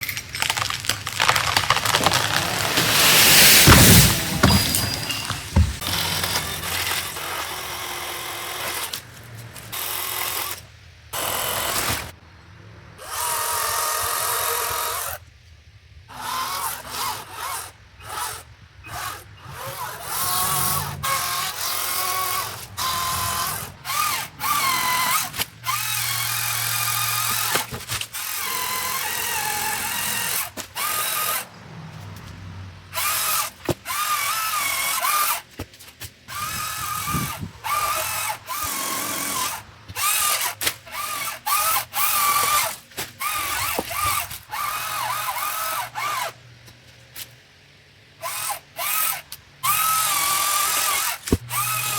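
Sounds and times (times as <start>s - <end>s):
pole saw cutting branches: 0.4s - 12.2s, 16.1s - 31.6s, 32.9s - 46.4s, 48.2s - 51.9s.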